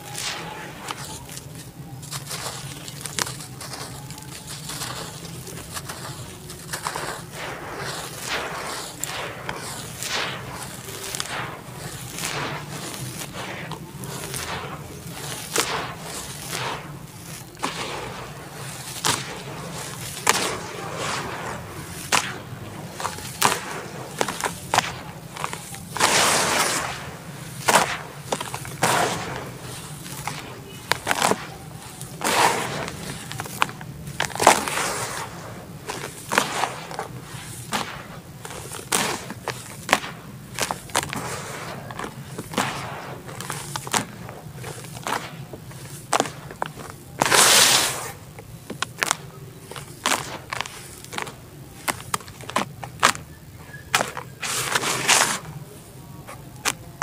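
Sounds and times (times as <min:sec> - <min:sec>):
dirt clumps crunching: 0:00.0 - 0:57.0.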